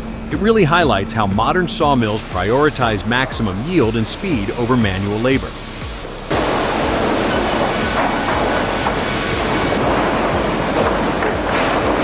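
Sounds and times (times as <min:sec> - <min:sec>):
machinery squeals: 0:00.0 - 0:11.5
sawmill machinery clattering: 0:00.0 - 0:12.0.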